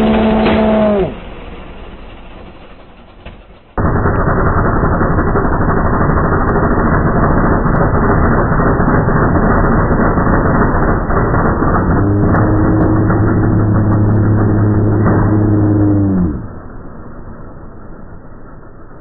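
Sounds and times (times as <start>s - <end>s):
car engine running loud: 0.0s - 19.0s
dense rushing noise: 0.0s - 19.0s.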